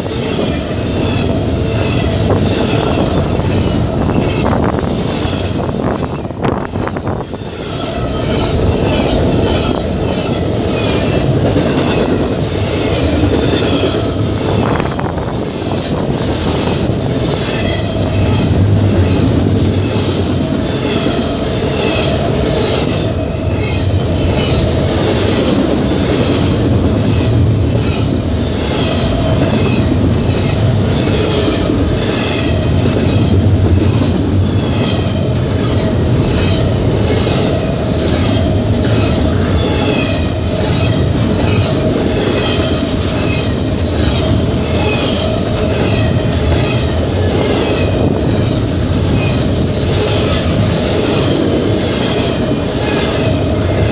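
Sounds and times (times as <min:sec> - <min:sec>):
freight train rumble: 0:00.0 - 0:53.9
wheels clacking over rail joints: 0:00.0 - 0:53.9.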